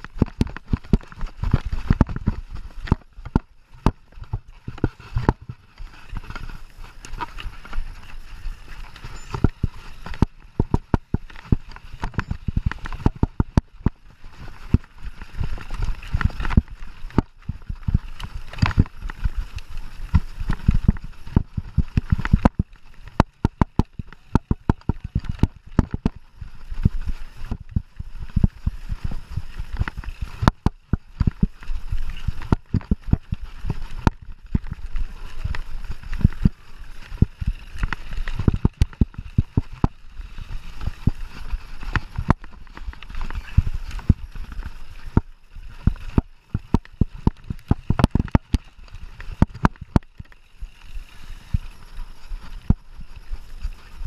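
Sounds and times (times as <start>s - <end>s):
bike rattling and knocking: 0.0s - 54.0s.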